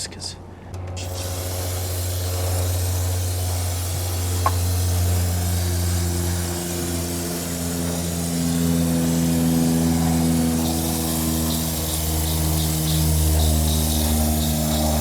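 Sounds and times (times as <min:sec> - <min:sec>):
mechanical hum: 0:00.0 - 0:15.0
aerosol spray hissing: 0:01.0 - 0:15.0.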